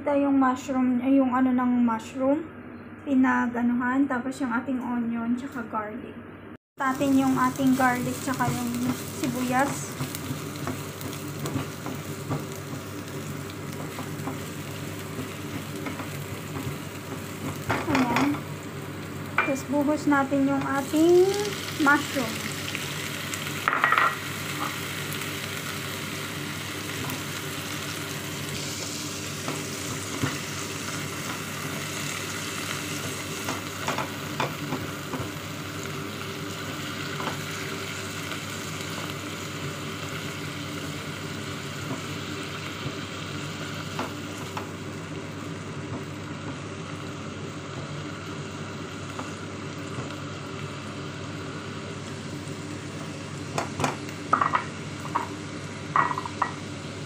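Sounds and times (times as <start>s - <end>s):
vegetables sizzling in oil: 6.8s - 57.0s.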